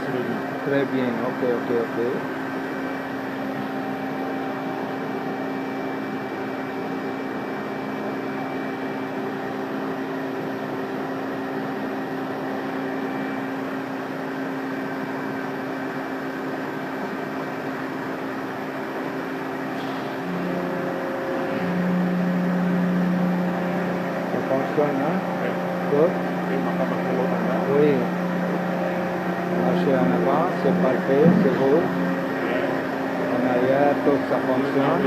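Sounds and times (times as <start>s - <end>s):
hydraulic machine humming: 0.0s - 35.0s.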